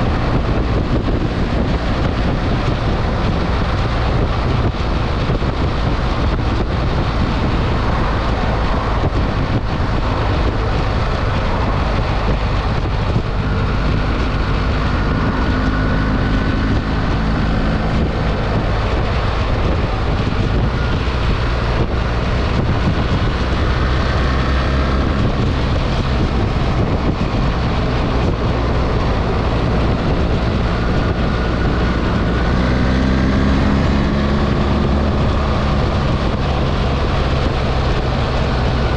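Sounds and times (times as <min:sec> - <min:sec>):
motorcycle engine accelerating: 0:00.0 - 0:38.9
wind noise on microphone: 0:00.0 - 0:38.9.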